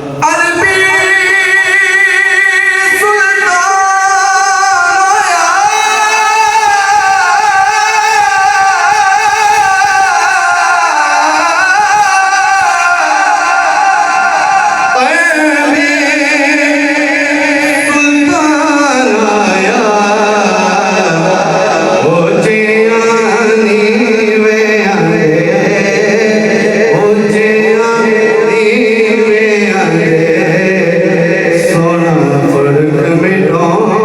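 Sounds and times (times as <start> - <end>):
man singing devotional song: 0.0 - 34.0.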